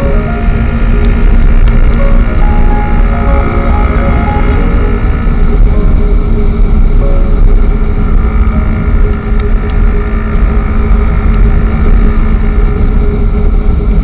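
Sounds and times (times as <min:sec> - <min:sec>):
motorcycle engine running: 0:00.0 - 0:14.0
road noise: 0:00.0 - 0:14.0
wind rumble on microphone: 0:00.0 - 0:14.0.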